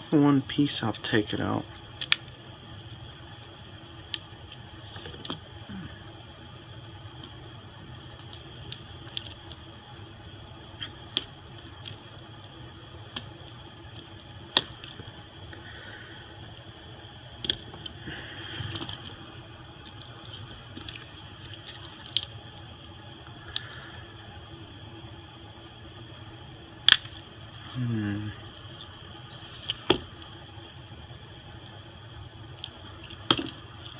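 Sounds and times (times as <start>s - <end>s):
low background hum: 0.0s - 33.9s.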